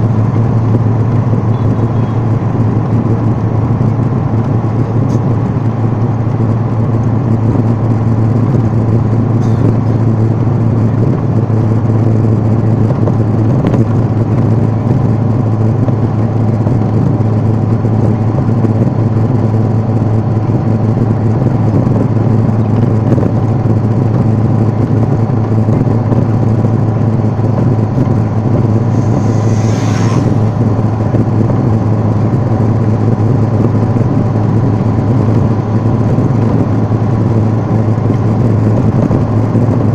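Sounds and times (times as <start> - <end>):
vehicle engine and tyre drone: 0.0 - 39.9.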